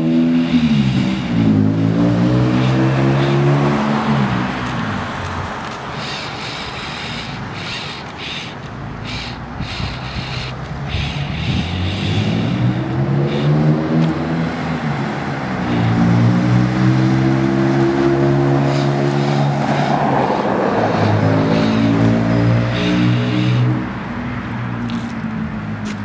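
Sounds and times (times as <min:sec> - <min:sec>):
car engine and exhaust: 0:00.0 - 0:26.0.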